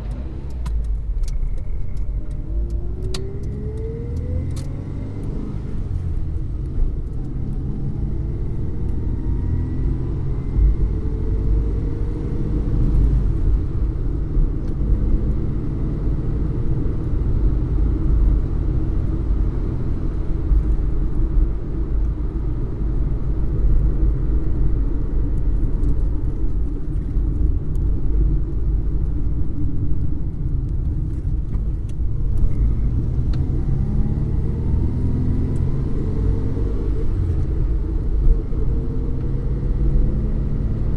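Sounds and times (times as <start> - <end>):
car engine rumble from inside: 0.0 - 40.9.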